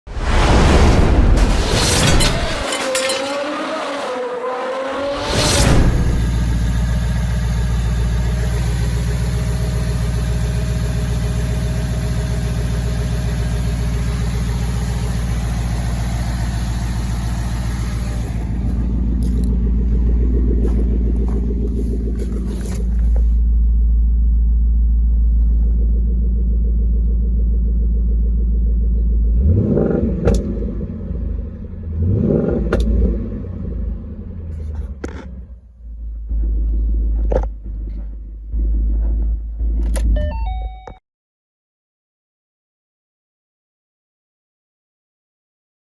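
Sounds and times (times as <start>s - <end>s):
car engine idling and revving: 1.4s - 40.8s.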